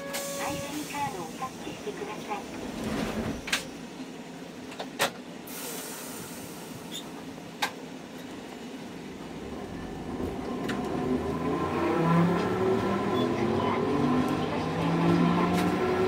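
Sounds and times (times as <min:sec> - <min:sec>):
streetcar running on track: 0:00.0 - 0:16.0.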